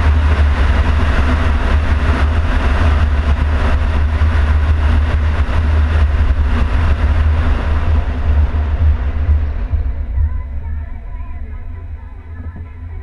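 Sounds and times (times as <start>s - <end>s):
car road noise: 0.0s - 13.0s
wind rumble: 0.0s - 13.0s.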